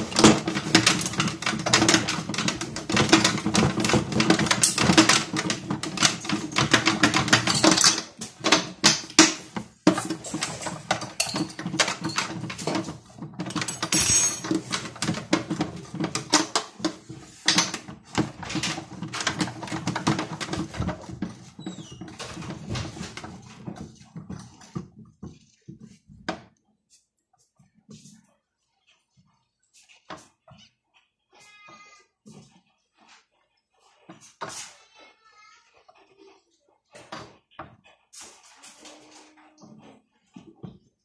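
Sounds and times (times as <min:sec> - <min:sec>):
toy washing machine motor clattering: 0:00.0 - 0:26.7, 0:27.4 - 0:41.0.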